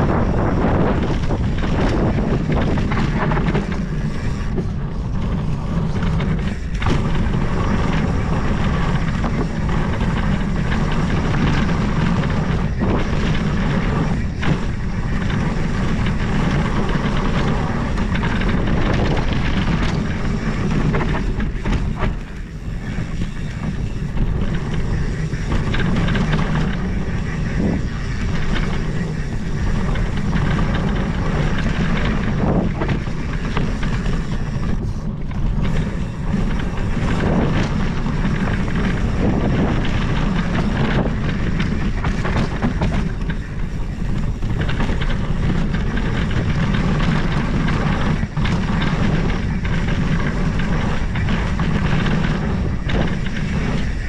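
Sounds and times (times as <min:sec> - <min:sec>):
bike knocks and rattles: 0:00.0 - 0:54.0
tyres rumbling on dirt trail: 0:00.0 - 0:54.0
wind buffeting microphone: 0:00.0 - 0:54.0.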